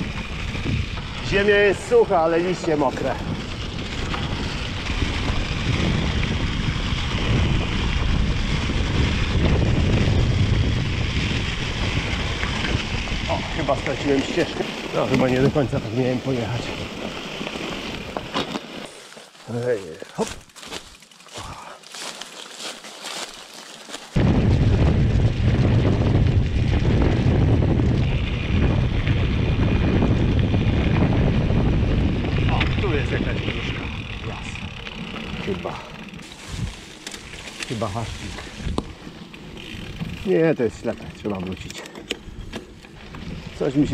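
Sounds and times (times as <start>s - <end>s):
wind on microphone: 0.0s - 16.9s, 24.1s - 43.9s
bike clicks and rattles: 0.0s - 43.9s
bike rolling over wet leaves: 0.0s - 43.9s.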